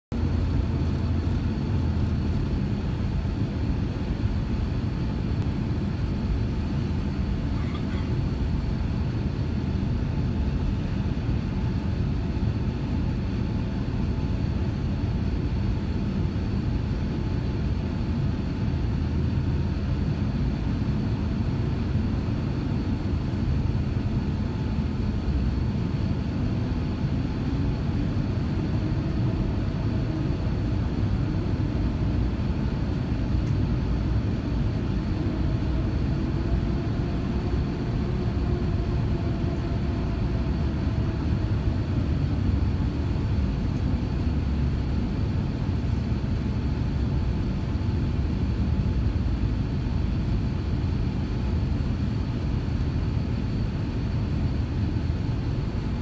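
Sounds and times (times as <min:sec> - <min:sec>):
aircraft engines rumbling: 0:00.1 - 0:56.0.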